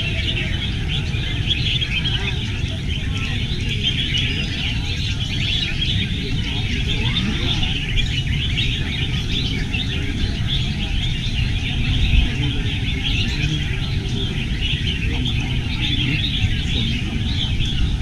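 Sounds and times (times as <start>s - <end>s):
birds chirping and warbling: 0.0s - 18.0s
low background rumble: 0.0s - 18.0s.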